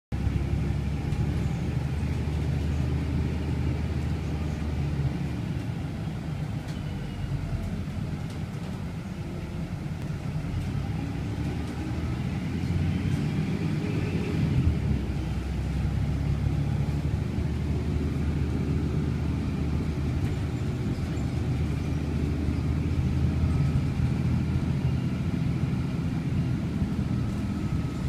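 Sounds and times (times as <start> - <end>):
bus engine and road rumble: 0.1 - 28.0.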